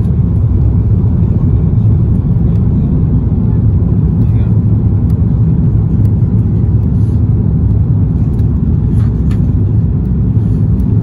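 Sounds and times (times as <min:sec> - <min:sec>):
airliner engines and airflow rumble: 0:00.0 - 0:11.0.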